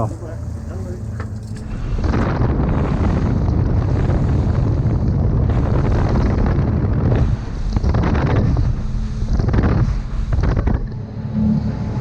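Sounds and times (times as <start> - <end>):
hull rushing through water: 0.0 - 12.0
wind buffeting microphone: 0.0 - 12.0.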